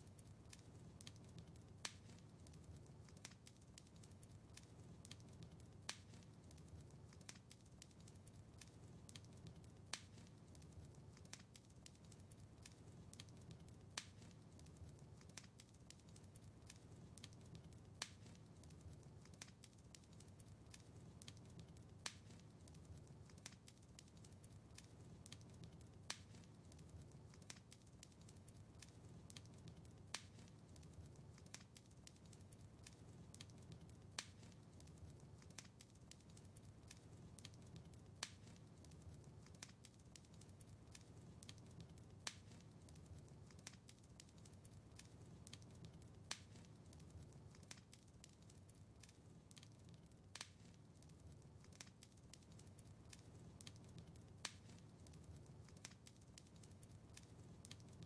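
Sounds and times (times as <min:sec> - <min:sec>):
faint fireplace fire crackling: 0:00.0 - 0:58.0.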